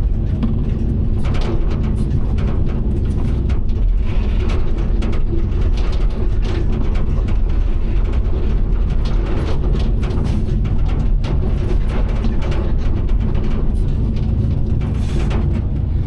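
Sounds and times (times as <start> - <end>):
diesel engine running: 0.0 - 16.0
machine clatter: 0.0 - 16.0.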